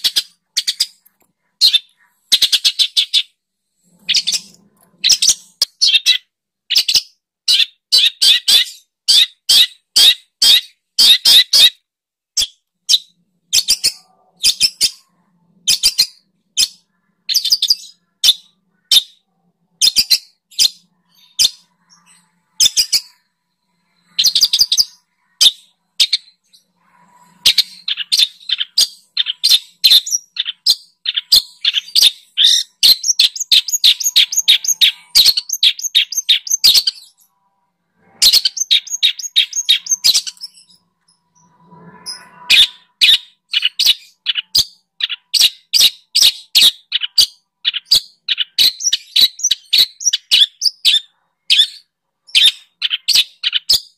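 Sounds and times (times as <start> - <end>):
songbird chirping: 0.0 - 53.9.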